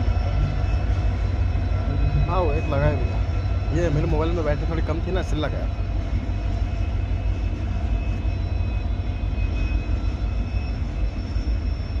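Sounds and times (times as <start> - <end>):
diesel locomotives humming: 0.0 - 12.0
thin steady whine: 0.0 - 12.0.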